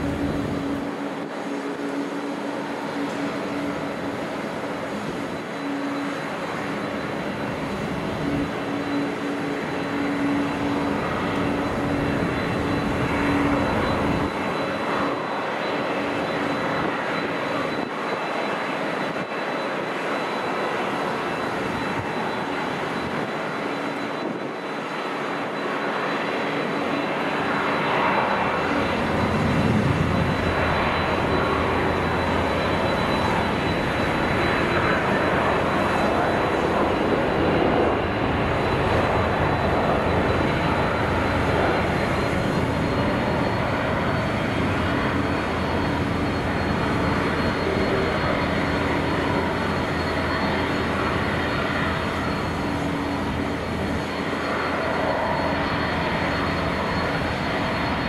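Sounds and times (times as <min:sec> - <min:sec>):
faint high whine: 0:00.0 - 0:58.0
jet engines rushing: 0:00.0 - 0:58.0.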